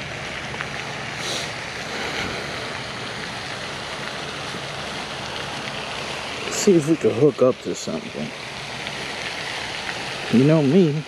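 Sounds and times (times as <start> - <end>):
fountain spray splashing: 0.0 - 11.0.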